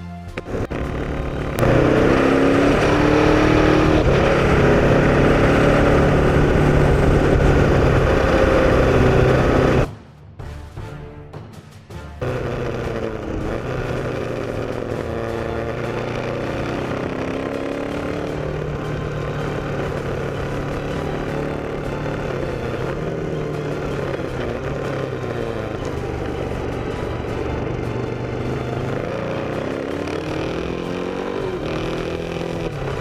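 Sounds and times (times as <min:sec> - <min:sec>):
motorcycle engine running: 0:00.2 - 0:09.9, 0:12.2 - 0:33.0.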